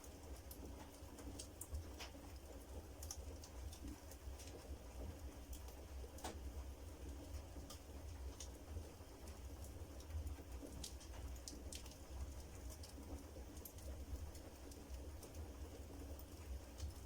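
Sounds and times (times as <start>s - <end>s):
firewood crackling and popping: 0.0s - 6.6s, 7.2s - 17.0s.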